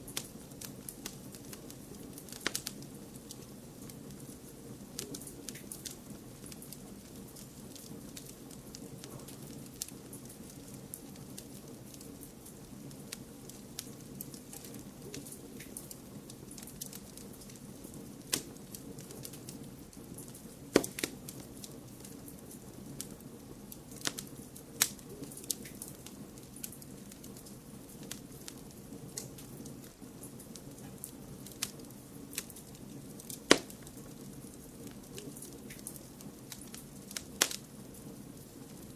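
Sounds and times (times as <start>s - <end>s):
wood fire crackling: 0.0s - 38.9s
sharp fire pops: 0.1s - 4.4s, 5.0s - 22.3s, 23.8s - 37.7s.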